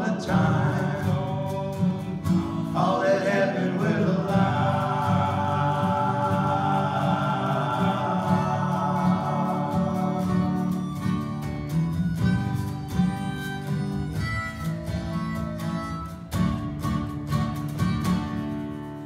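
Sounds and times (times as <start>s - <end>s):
acoustic guitars strumming: 0.0s - 19.0s
cajon beat: 0.0s - 19.0s
harmonica playing: 0.0s - 19.0s.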